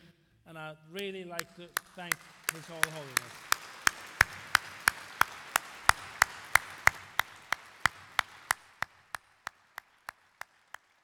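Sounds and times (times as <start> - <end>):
man clapping hands: 1.4 - 11.0
audience applause: 1.8 - 11.0.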